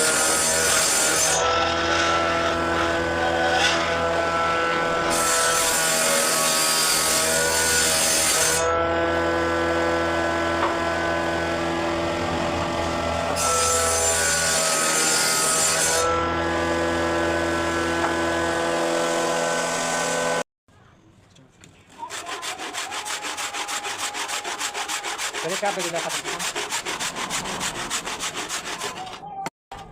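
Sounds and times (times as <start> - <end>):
power tool cutting wood: 0.0 - 20.4, 22.0 - 29.2.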